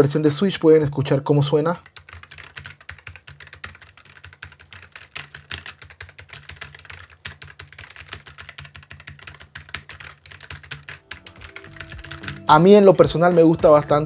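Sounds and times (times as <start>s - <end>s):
fast typing on mechanical keyboard: 1.4s - 14.0s.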